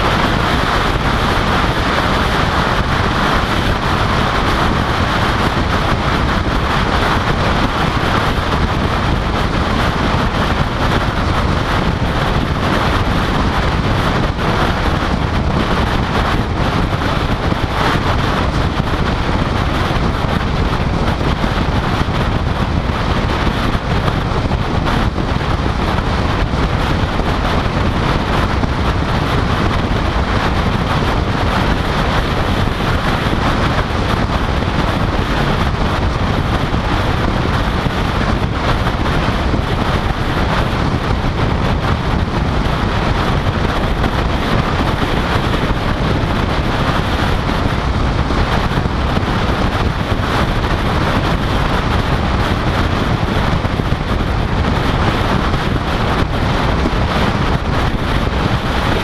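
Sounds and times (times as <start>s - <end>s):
tyre and road noise: 0.0s - 59.0s
wind rush buffeting microphone: 0.0s - 59.0s.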